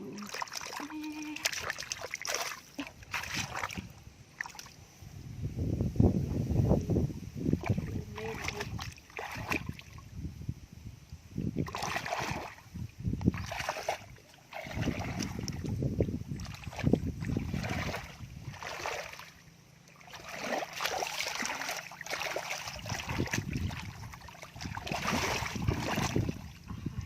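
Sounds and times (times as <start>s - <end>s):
muddy water sloshing and splashing: 0.0s - 4.9s, 7.4s - 10.4s, 11.3s - 27.0s.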